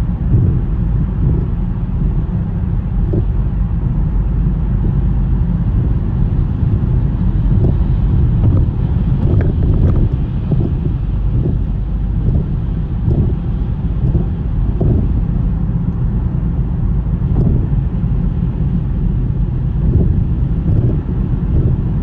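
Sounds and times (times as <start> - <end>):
tyre and wind rumble: 0.0 - 22.0.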